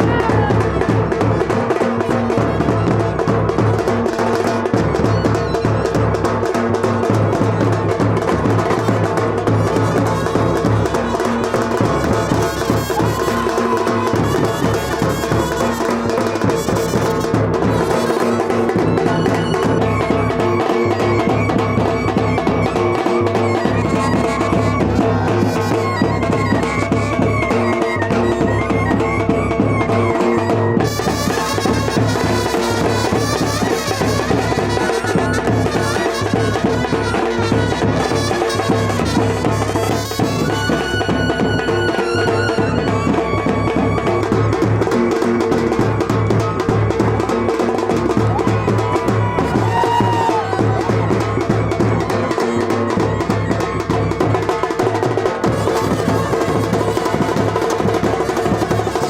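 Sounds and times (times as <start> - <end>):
loud music with drums and brass: 0.0 - 59.0.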